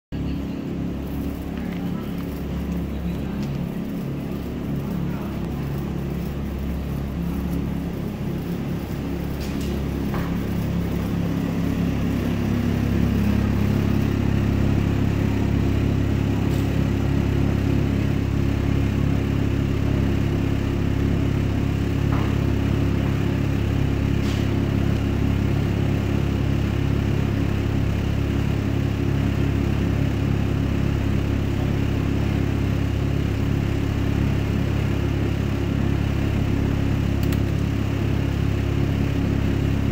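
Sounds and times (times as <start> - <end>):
refrigeration machinery humming: 0.1 - 39.9.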